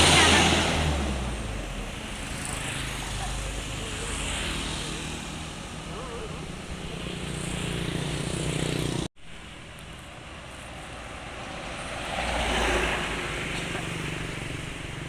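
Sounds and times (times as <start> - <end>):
vehicle engine humming: 0.0 - 15.0
vehicle passing: 0.0 - 15.0.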